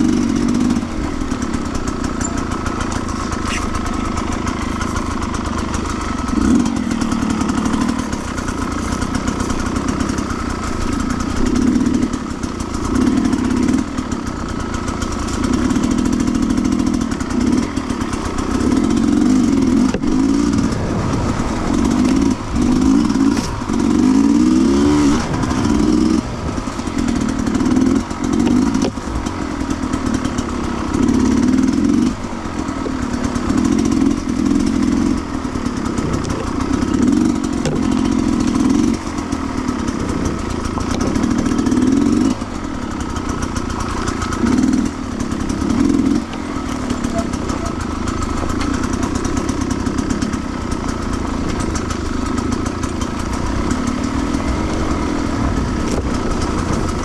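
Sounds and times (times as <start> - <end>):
motorcycle engine revving: 0.0 - 57.0
motorcycle knocking over trail: 0.0 - 57.0.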